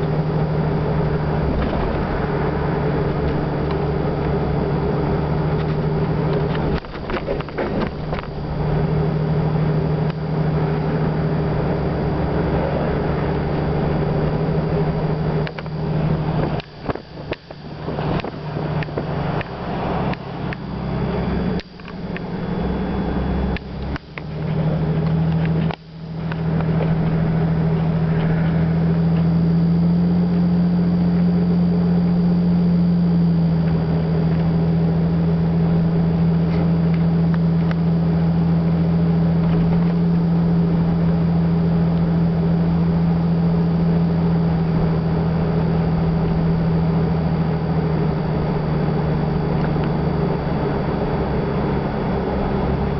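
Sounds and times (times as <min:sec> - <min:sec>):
car engine hum: 0:00.0 - 0:52.9
road noise: 0:00.0 - 0:52.9.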